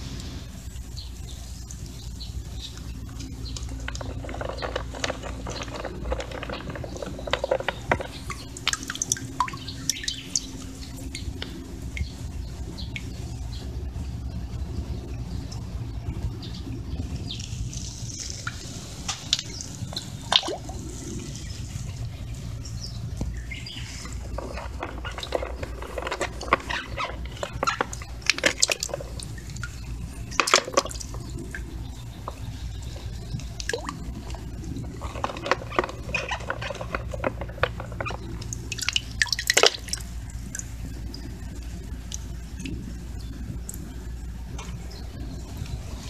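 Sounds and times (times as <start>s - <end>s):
steady low hum: 0.0s - 46.0s
water dripping into a bucket: 0.0s - 46.0s.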